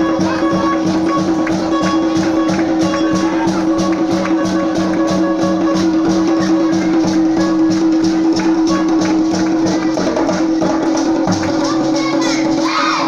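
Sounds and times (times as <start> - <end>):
fast percussion beat: 0.0 - 13.0.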